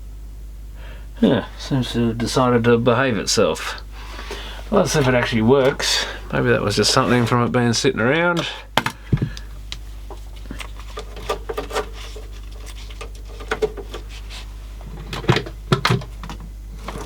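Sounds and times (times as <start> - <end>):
faint mechanism whir: 0.0 - 17.0
steady low hum: 0.0 - 17.0.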